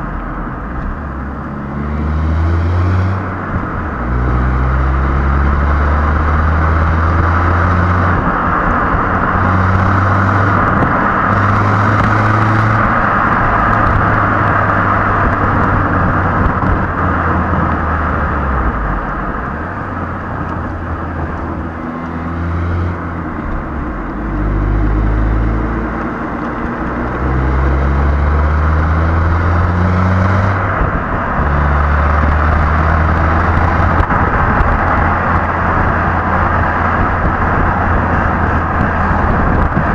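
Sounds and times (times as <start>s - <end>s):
car engine accelerating: 0.0s - 39.9s
tyre and wind rush: 1.1s - 39.9s.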